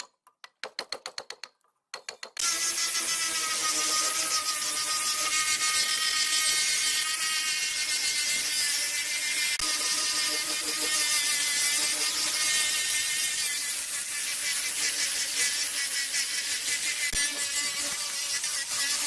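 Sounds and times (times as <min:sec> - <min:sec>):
electric power tool whining: 0:02.4 - 0:19.0.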